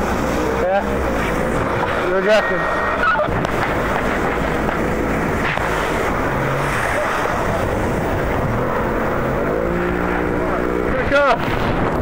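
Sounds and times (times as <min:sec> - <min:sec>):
outboard engine running at speed: 0:00.0 - 0:12.0
rough breaking water: 0:00.0 - 0:12.0
wind rush over microphone: 0:00.0 - 0:12.0.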